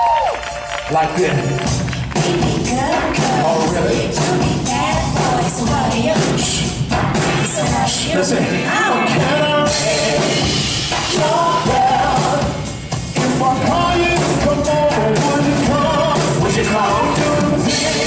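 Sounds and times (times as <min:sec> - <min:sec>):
loud live backing music: 0:00.0 - 0:18.0
person singing: 0:02.2 - 0:06.7, 0:07.4 - 0:18.0.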